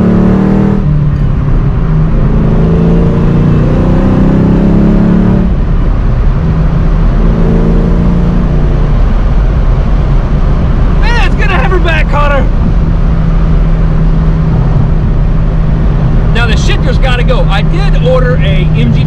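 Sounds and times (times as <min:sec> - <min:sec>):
car engine accelerating through gears: 0:00.0 - 0:19.0.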